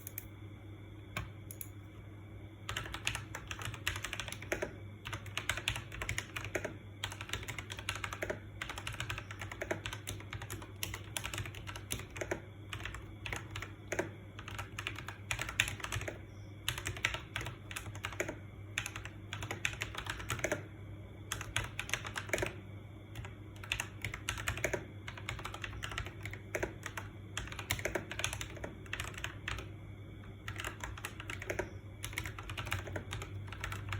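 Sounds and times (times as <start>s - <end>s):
steady low hum: 0.0s - 33.9s
typing on a mechanical keyboard: 2.7s - 20.7s, 21.3s - 29.7s, 30.4s - 33.9s.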